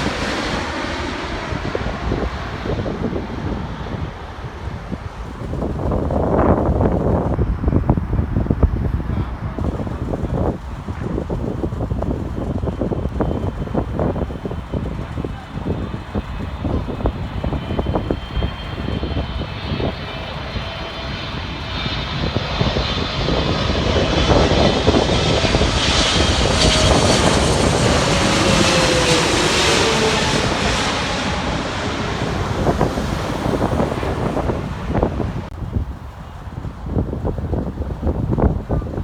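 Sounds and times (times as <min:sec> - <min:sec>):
airliner engine noise: 0:00.0 - 0:39.0
wind buffeting microphone: 0:00.0 - 0:39.0.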